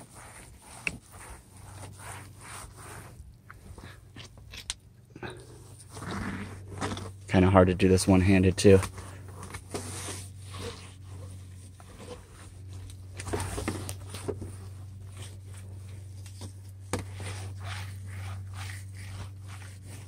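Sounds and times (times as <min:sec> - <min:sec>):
clay mitt scratching on paint: 0:00.0 - 0:04.4, 0:05.5 - 0:20.0.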